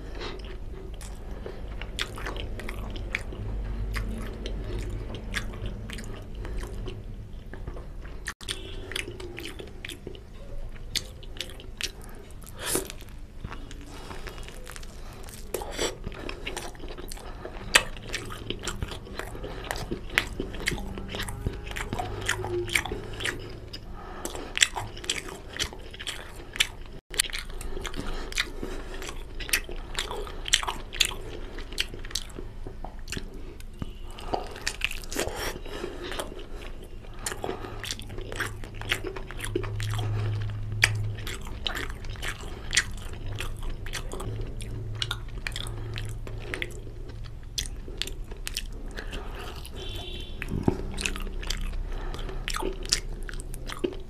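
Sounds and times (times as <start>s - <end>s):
person chewing meat: 0.0s - 54.0s.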